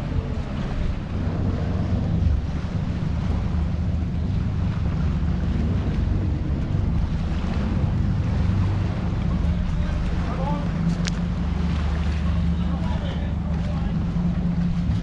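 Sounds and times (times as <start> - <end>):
diesel engines humming: 0.0 - 15.0
wind buffeting microphone: 0.0 - 15.0.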